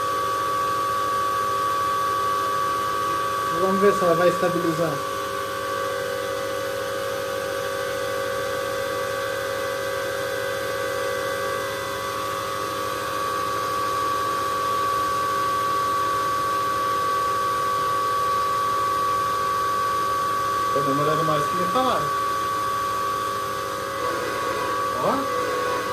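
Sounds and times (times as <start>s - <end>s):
cooling fans whirring: 0.0s - 25.9s.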